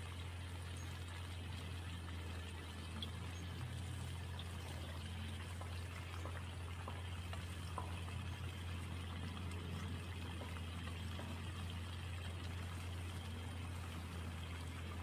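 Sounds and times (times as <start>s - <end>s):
liquid pouring and sloshing: 0.0s - 15.0s
steady low hum: 0.0s - 15.0s.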